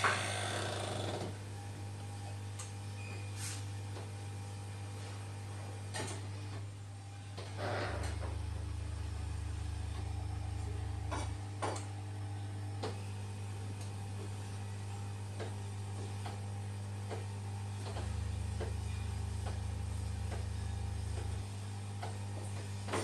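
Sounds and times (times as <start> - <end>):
massage chair motors humming: 0.0 - 23.0.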